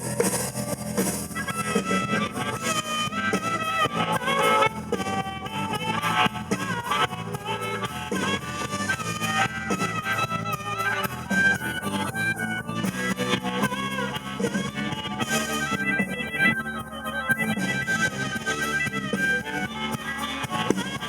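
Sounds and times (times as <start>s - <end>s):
blues band playing: 0.0s - 21.0s
harmonica solo: 0.0s - 21.0s.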